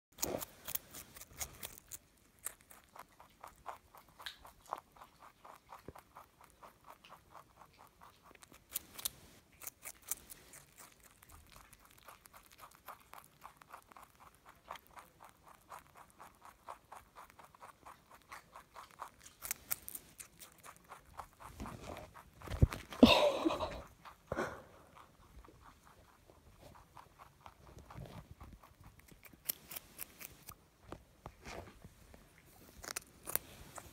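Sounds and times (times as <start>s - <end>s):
rabbit chewing carrot: 0.1s - 33.9s.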